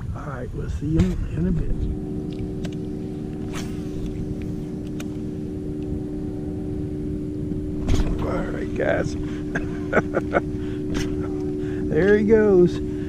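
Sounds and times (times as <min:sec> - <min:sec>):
small motor humming: 0:01.0 - 0:13.0.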